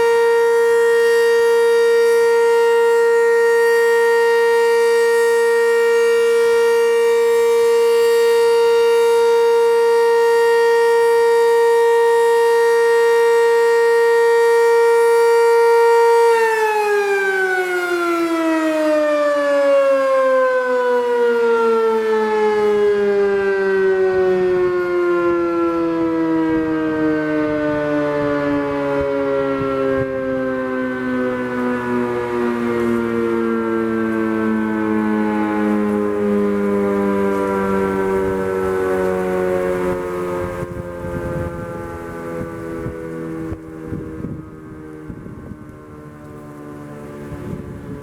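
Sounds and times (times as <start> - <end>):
warning siren winding down: 0.0 - 48.0.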